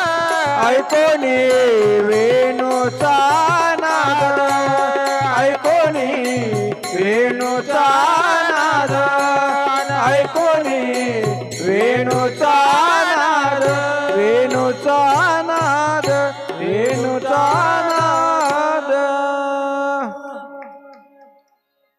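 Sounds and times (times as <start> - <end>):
men singing folk song: 0.0 - 20.5.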